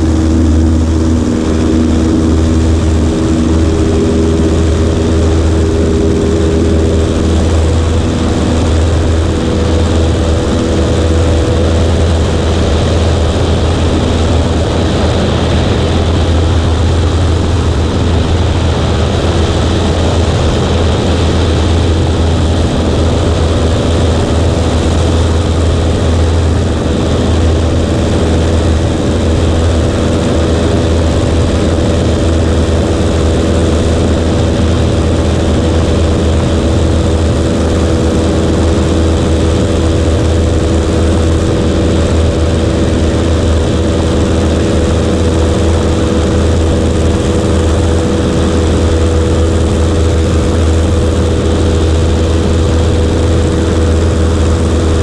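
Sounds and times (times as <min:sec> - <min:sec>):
propeller airplane engine drone: 0:00.0 - 0:55.0.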